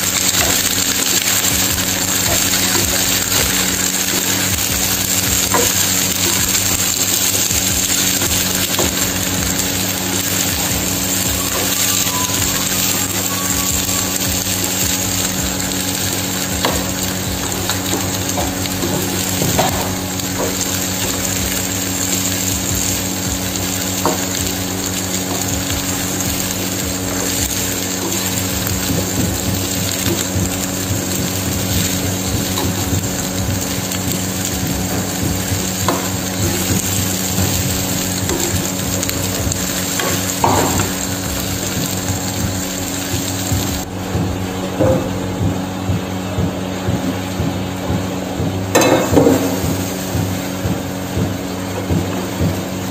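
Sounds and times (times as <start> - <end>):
frying sizzle: 0.0 - 52.9
steady low hum: 0.0 - 52.9.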